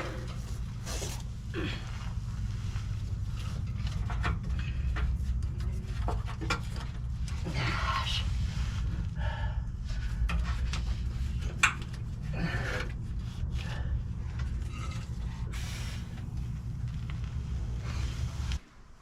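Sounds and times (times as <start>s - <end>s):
rubbing and handling noises: 0.0s - 18.9s
low mechanical hum: 0.0s - 19.0s.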